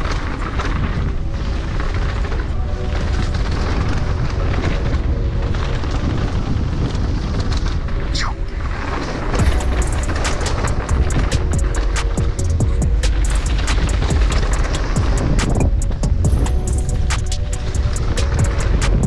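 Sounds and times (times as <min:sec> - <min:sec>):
bike trail noise: 0:00.0 - 0:19.0
music: 0:00.0 - 0:19.0
rumbling wind: 0:00.0 - 0:19.0.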